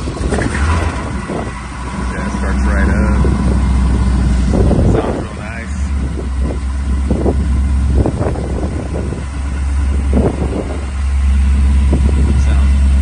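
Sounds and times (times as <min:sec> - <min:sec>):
truck engine low rumble: 0:00.0 - 0:13.0
wind buffeting microphone: 0:00.0 - 0:13.0.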